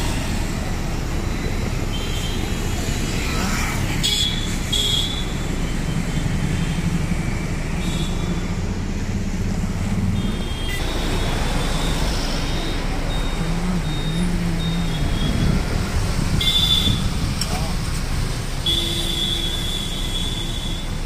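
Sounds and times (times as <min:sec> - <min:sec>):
busy street traffic: 0:00.0 - 0:21.0.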